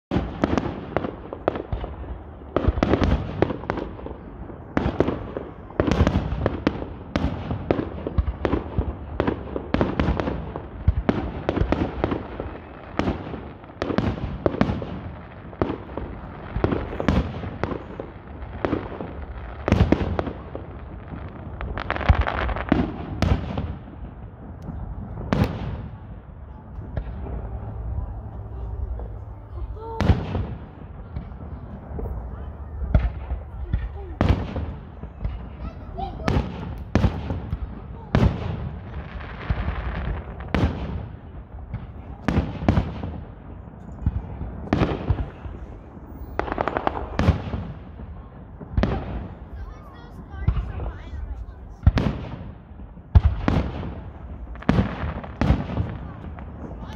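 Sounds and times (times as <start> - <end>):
fireworks bursting: 0.1 - 56.9.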